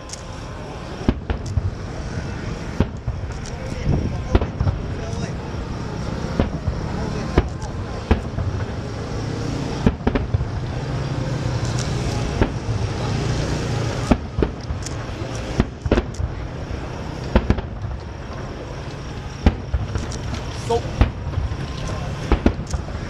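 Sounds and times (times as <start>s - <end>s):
fireworks rumble and crackle: 0.0s - 23.0s
fireworks shells bursting: 0.0s - 23.0s.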